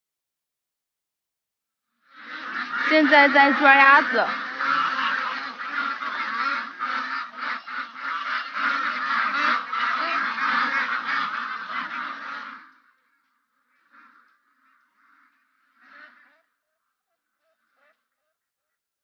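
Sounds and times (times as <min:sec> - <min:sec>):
ducks quacking loudly: 0:02.0 - 0:18.3.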